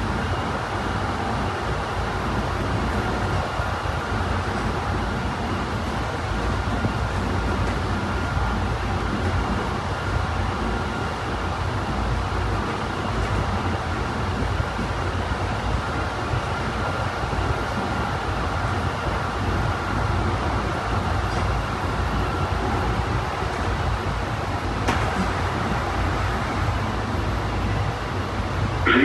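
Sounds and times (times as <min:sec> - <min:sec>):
faint steady whine: 0:00.0 - 0:29.0
train wheels rumbling on track: 0:00.0 - 0:29.0.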